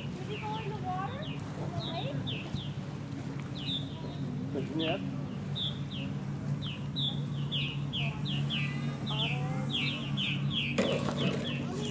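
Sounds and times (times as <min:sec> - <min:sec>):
birds chirping rapidly: 0:00.0 - 0:02.9, 0:03.5 - 0:11.9
low steady hum: 0:00.0 - 0:11.9.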